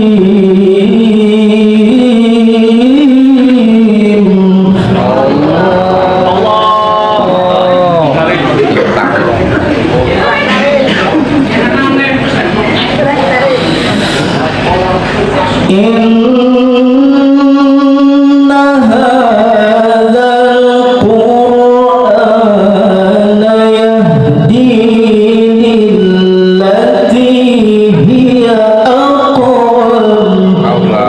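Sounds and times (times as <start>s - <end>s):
man chanting melodically: 0.0s - 31.0s.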